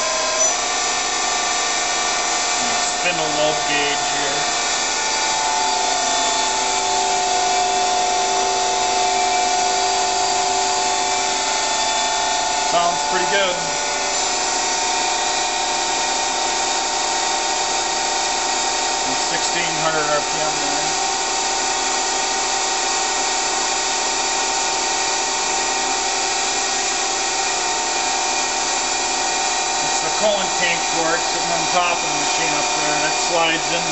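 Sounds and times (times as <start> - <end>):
lathe spindle whining: 0.0 - 33.9
machine hum: 0.0 - 33.9.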